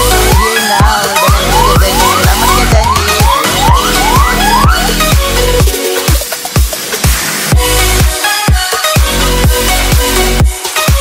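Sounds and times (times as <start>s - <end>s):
electronic dance music: 0.0s - 11.0s
heavy kick drum: 0.0s - 11.0s.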